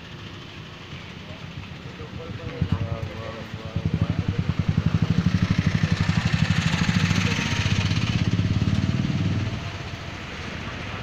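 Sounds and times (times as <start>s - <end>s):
small engine idling: 0.0s - 11.0s
street hum: 0.0s - 11.0s.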